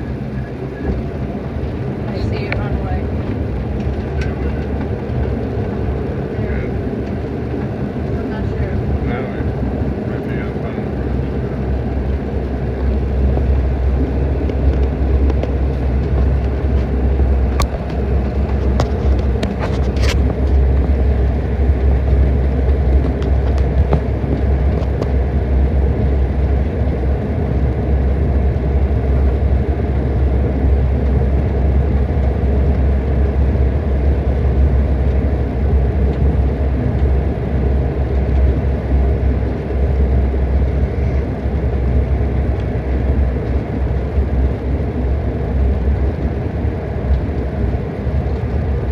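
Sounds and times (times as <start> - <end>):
jet engines and rushing air: 0.0 - 48.9.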